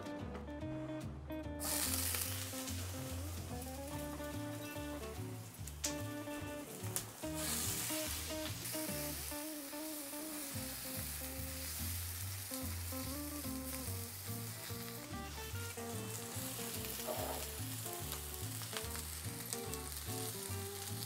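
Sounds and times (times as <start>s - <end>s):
background music: 0.0s - 21.0s
vegetables sizzling in a skillet: 1.6s - 21.0s.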